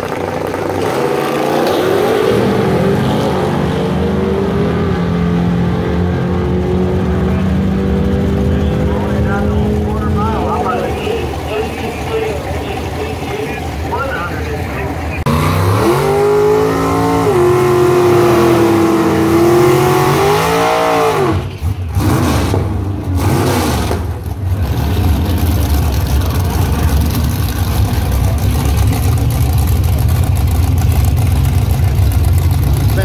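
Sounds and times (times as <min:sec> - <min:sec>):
drag car engine revving and idling: 0:00.0 - 0:33.0.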